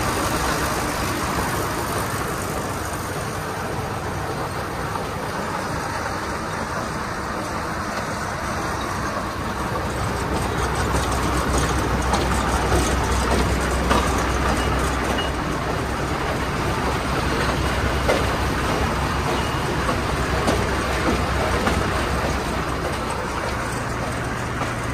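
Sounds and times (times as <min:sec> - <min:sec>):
round baler clattering: 0:00.0 - 0:24.9
tractor engine running: 0:00.0 - 0:24.9.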